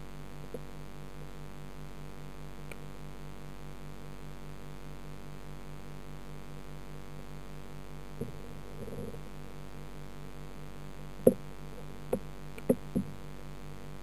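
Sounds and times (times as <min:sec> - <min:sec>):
underwater aquarium filter hum: 0:00.0 - 0:14.0.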